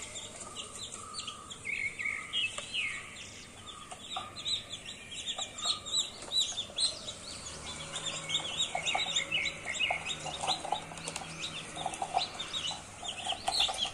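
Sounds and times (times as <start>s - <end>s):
chicks peeping: 0.0s - 13.9s.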